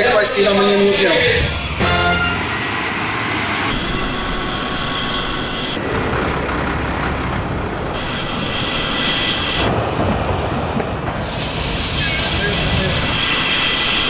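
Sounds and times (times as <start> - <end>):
high jet whine: 0.0 - 14.0
jet aircraft rush: 0.0 - 14.0.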